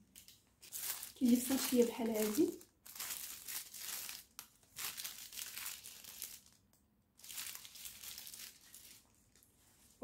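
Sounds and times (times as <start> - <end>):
plastic bag crinkling: 0.1 - 9.5.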